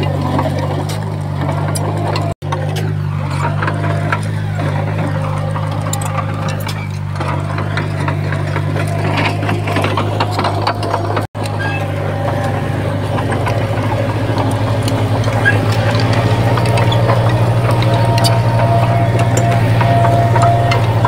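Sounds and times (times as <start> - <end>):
diesel engine running: 0.0 - 21.0
metallic clanks and rattles: 0.0 - 21.0.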